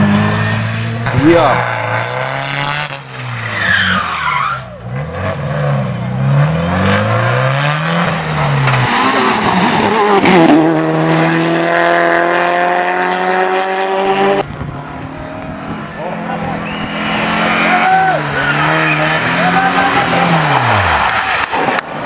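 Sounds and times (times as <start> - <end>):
rally car engines accelerating: 0.0 - 22.0.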